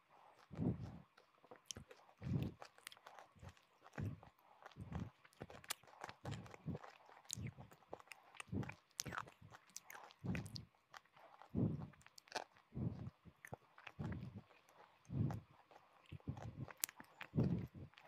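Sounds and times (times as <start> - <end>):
chewing brittle hard pieces: 0.4 - 18.0.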